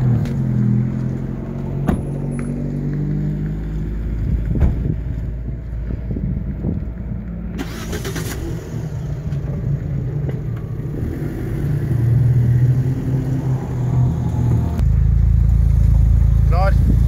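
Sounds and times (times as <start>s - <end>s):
car engines running: 0.0s - 17.0s.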